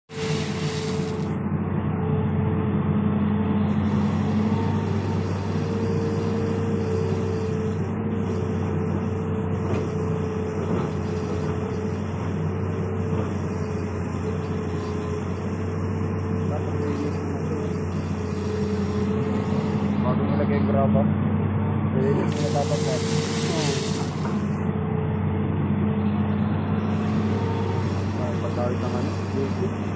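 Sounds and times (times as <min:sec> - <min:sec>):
excavator diesel engine running: 0:00.1 - 0:29.9
steady whine: 0:00.1 - 0:29.9.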